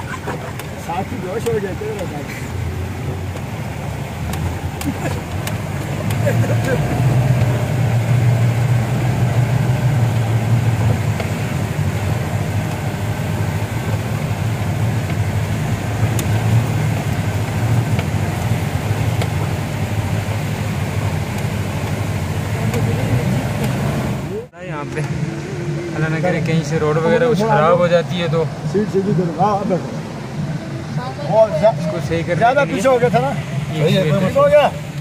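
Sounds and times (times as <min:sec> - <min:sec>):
jeep engine droning: 0:00.0 - 0:35.0.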